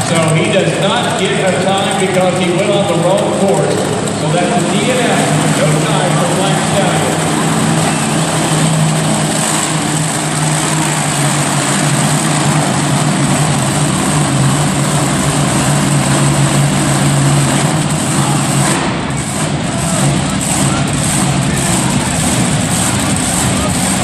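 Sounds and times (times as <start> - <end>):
dense wash of noise: 0.0 - 24.0
truck engine running loud: 0.0 - 24.0.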